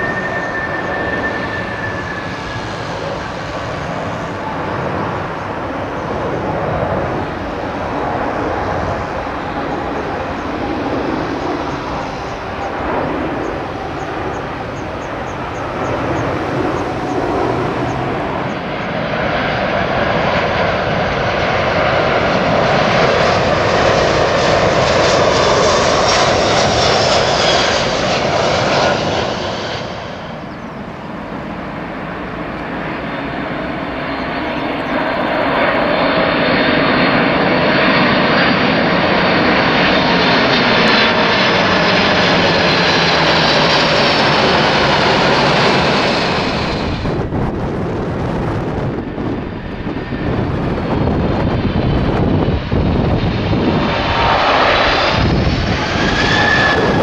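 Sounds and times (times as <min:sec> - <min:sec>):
jet engine noise overhead: 0:00.0 - 0:57.0.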